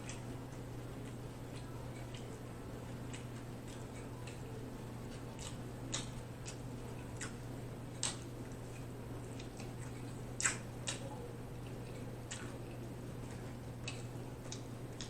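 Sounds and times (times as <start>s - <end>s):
wet chewing mouth clicks: 0.0s - 4.4s, 5.1s - 15.0s
steady low hum: 0.0s - 15.0s.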